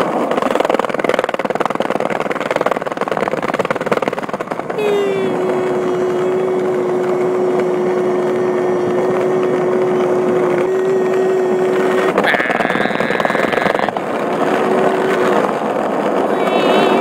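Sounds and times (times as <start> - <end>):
rattling buzz: 0.0 - 17.0
skateboard wheels rumbling on asphalt: 0.0 - 17.0
wind buffeting microphone: 0.0 - 17.0.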